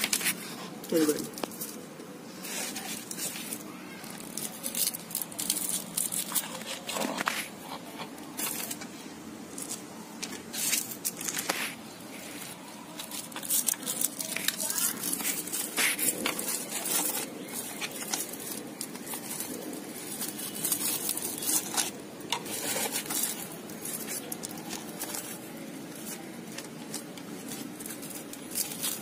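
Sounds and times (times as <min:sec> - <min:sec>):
hands packing soil in pot: 0:00.0 - 0:29.0
rustling and scraping: 0:00.0 - 0:29.0
soil crumbs ticking: 0:00.0 - 0:29.0.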